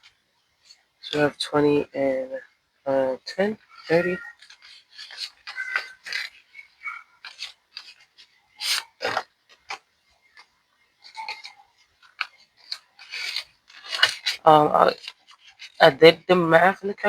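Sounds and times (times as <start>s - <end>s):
paper banknotes rustling: 3.3s - 17.0s.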